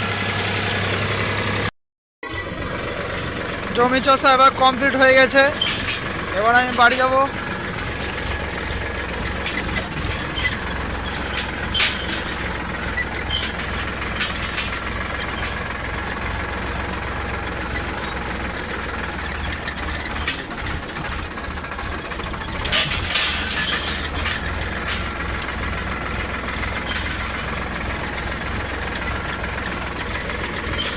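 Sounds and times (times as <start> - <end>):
tractor diesel engine running: 0.0 - 30.9
rattling clanks: 2.2 - 30.9.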